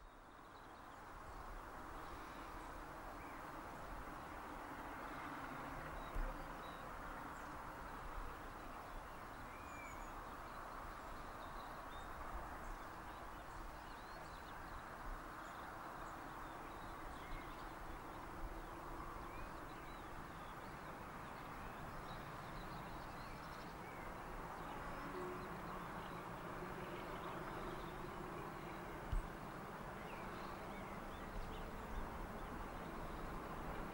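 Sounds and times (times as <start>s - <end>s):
open air rumble and hiss: 0.0s - 33.9s
small birds chirping: 5.8s - 33.9s.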